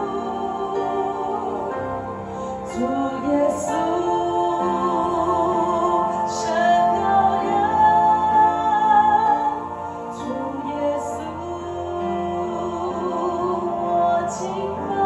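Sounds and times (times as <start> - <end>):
held keyboard chords: 0.0 - 15.0
woman singing: 0.0 - 15.0.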